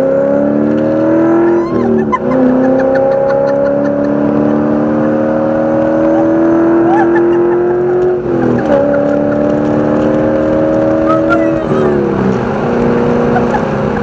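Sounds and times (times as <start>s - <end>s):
race car engine accelerating: 0.0s - 14.0s.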